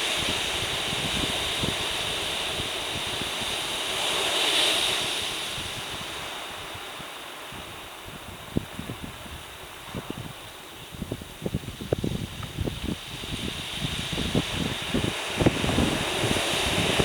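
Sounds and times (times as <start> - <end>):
heavy surf breaking: 0.0 - 8.8, 12.0 - 17.0.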